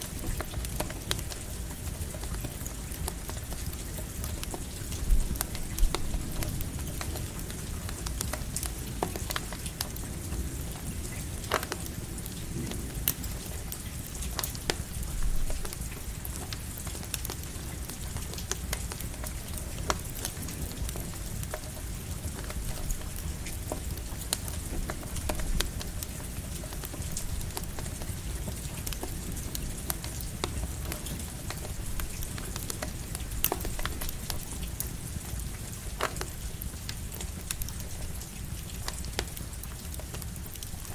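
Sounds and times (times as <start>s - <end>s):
campfire crackling and popping: 0.0s - 40.9s
light rain: 0.0s - 40.9s.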